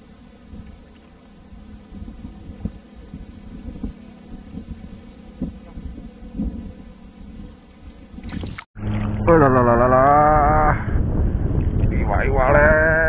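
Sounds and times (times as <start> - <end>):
wind buffeting microphone: 1.5 - 13.0.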